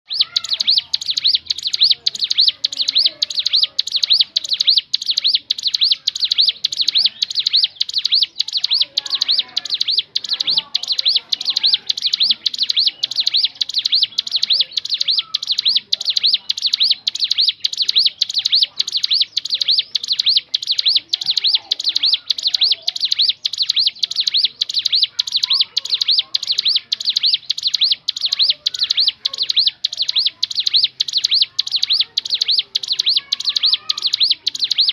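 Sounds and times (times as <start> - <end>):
bird singing high chirps: 0.1 - 34.9.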